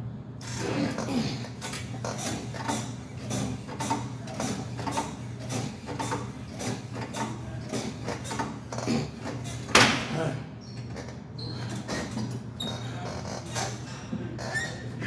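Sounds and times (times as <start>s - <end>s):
exercise machine clicking and rattling: 0.4s - 14.9s.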